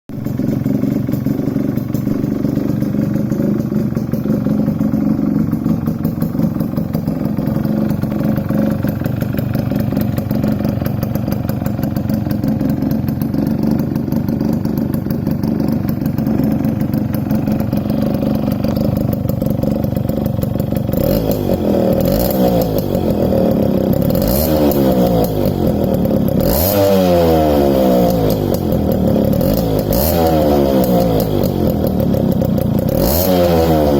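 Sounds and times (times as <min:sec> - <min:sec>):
motorcycle engine idling and revving: 0:00.1 - 0:33.9.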